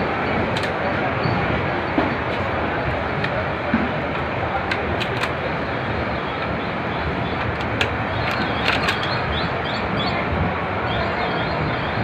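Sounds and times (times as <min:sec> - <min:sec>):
train rumbling and rattling: 0:00.0 - 0:12.0
wheels clicking over rail joints: 0:00.1 - 0:10.0.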